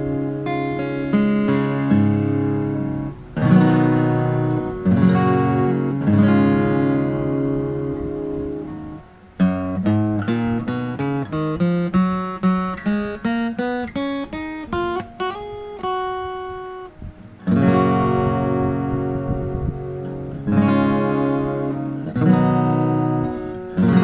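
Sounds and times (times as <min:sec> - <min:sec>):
acoustic guitar picked notes: 0:00.0 - 0:24.0
acoustic guitar strummed chords: 0:00.0 - 0:24.0.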